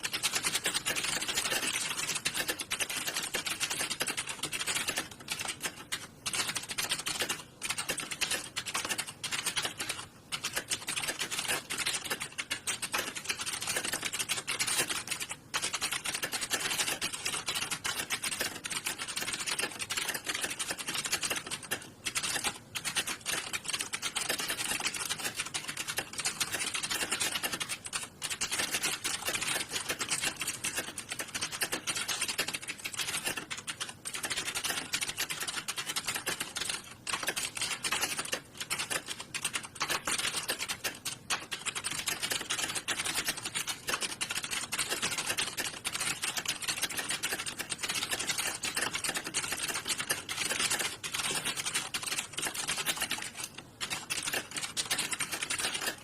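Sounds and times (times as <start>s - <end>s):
fast typing on computer keyboard: 0.0s - 56.0s.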